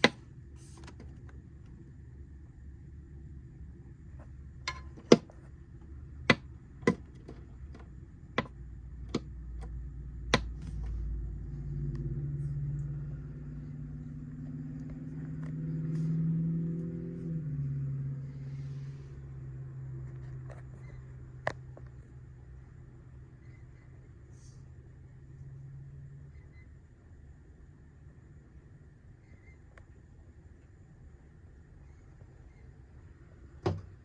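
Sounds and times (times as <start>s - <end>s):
vehicle engine hum: 0.0s - 29.2s.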